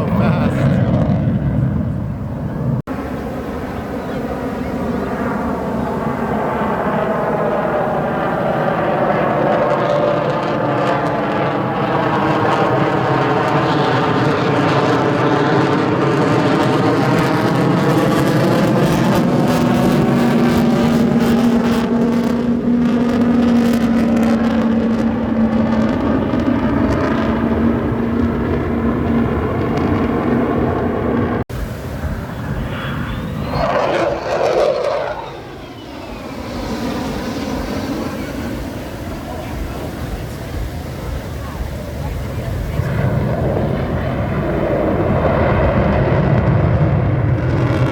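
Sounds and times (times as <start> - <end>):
aircraft engine droning: 0.0 - 47.9
airplane flying past: 0.0 - 47.9.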